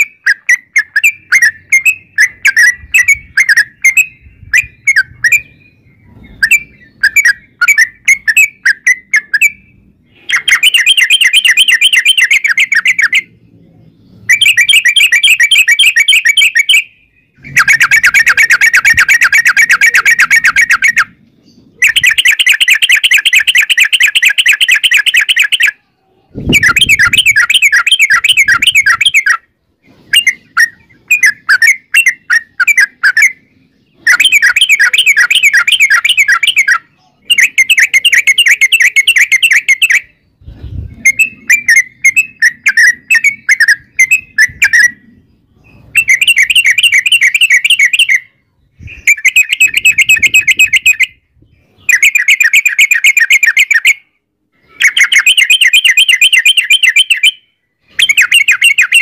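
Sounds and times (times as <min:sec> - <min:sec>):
bird trilling and chattering: 0:00.0 - 0:59.0.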